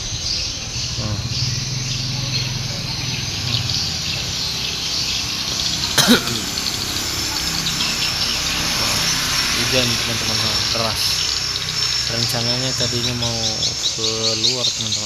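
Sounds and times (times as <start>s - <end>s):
rain falling in strong wind: 0.9s - 13.2s.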